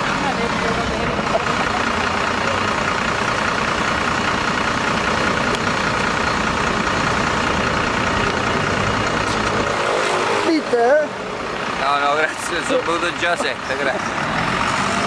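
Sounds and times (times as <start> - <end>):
bus engine running: 0.0 - 15.0
city street traffic: 0.0 - 15.0.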